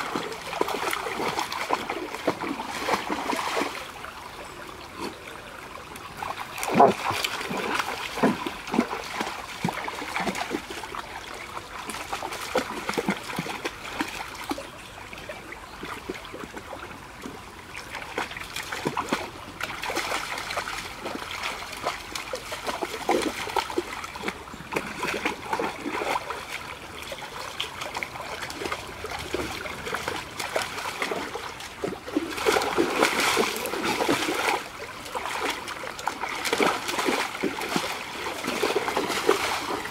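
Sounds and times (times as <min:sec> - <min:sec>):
dogs splashing through water: 0:00.0 - 0:39.9
stream trickling: 0:00.0 - 0:39.9.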